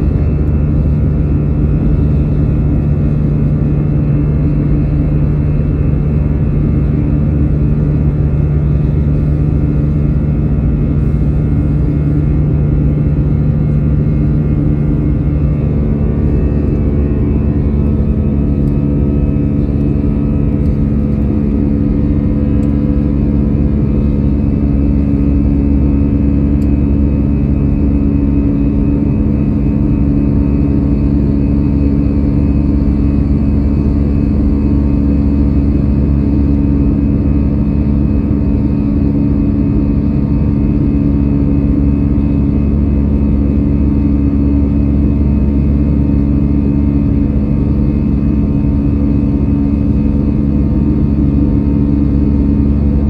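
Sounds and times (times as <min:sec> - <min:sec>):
airplane cabin engine drone: 0:00.0 - 0:53.0
steady hums: 0:00.0 - 0:53.0.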